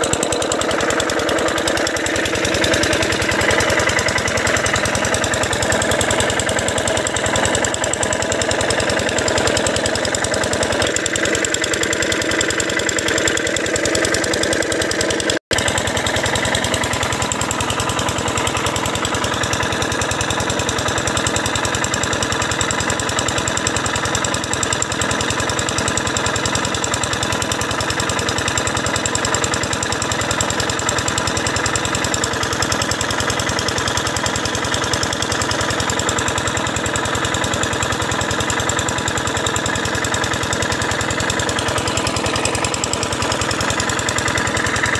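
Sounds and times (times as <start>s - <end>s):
pump engine knocking steadily: 0.0s - 44.9s.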